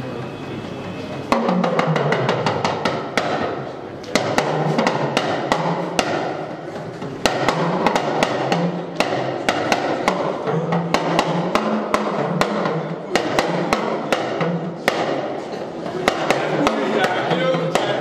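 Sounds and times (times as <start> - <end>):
talking drum pitch-bending strokes: 0.0 - 18.0.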